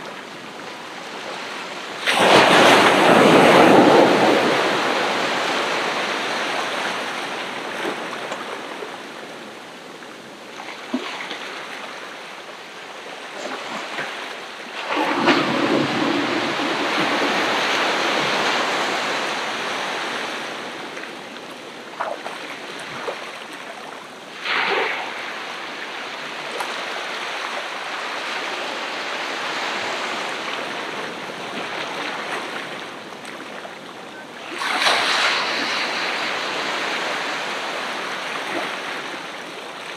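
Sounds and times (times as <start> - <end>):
ocean surf breaking: 0.0 - 10.0, 13.2 - 23.6, 24.2 - 39.9.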